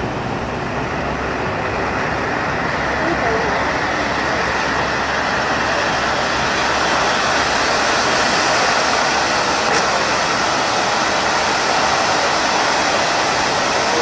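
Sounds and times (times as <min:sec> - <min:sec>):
firework fountain hissing: 0:00.0 - 0:14.0.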